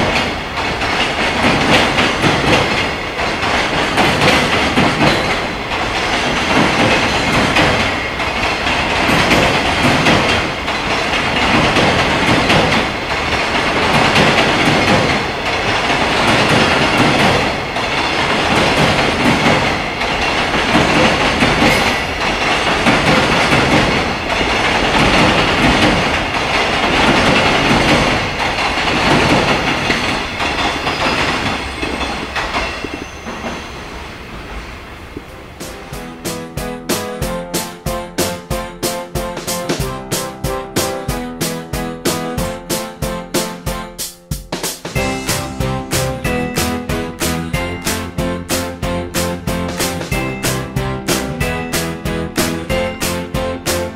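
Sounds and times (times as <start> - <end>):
clickety-clack over rail joints: 0.0 - 53.9
train wheels rumbling on rails: 0.0 - 53.9.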